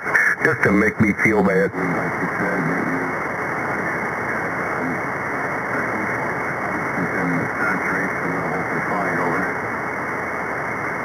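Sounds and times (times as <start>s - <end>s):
faint garbled radio voice: 0.0s - 9.7s
radio static hiss: 0.0s - 11.0s.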